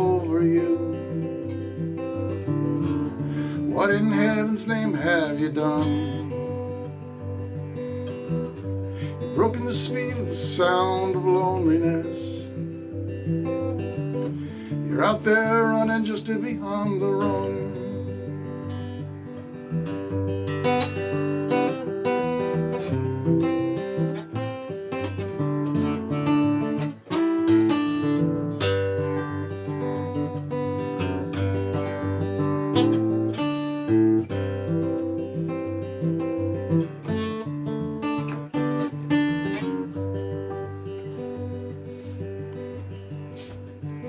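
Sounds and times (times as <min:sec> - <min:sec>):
acoustic guitar playing: 0:00.0 - 0:44.0.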